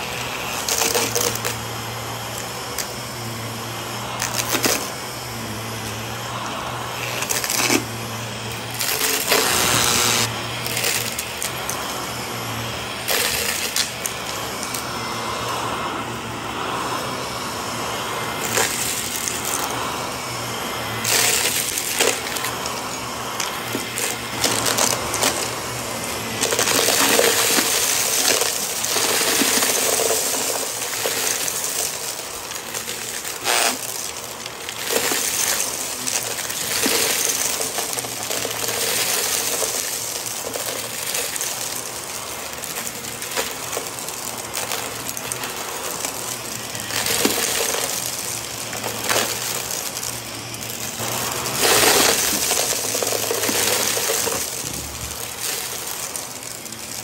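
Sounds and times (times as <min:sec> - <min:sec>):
debris crackling in vacuum: 0:00.0 - 0:57.0
vacuum cleaner motor humming: 0:00.0 - 0:57.0.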